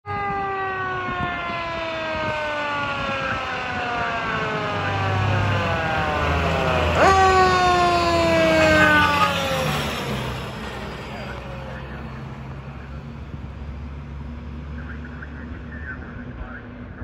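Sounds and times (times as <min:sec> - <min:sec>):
fire engine siren: 0:00.0 - 0:15.7
truck engine rumbling: 0:00.0 - 0:17.0.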